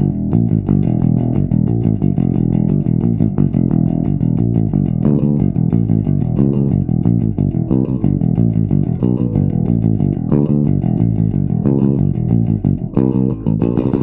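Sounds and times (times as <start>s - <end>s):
electric bass picked notes: 0.0s - 14.0s.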